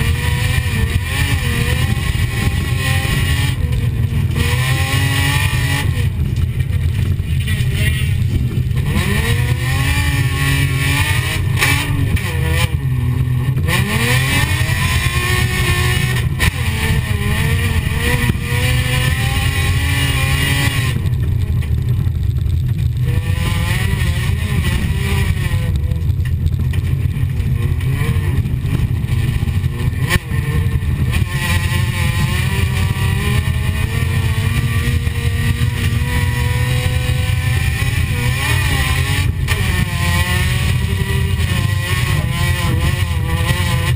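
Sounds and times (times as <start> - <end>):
car engine revving: 0.0 - 43.9
heavy low rumble: 0.0 - 43.9.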